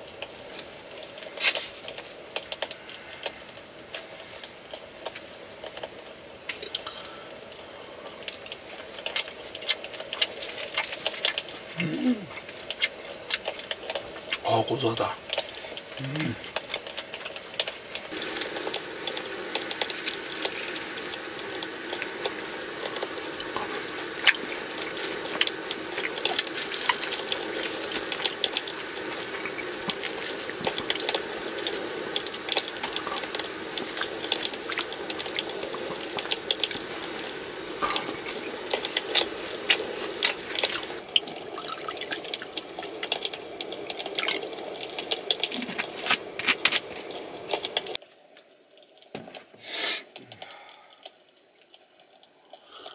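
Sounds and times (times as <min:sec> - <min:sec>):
food sizzling in a pan: 0:00.0 - 0:52.9
oil crackling and popping: 0:00.0 - 0:52.9.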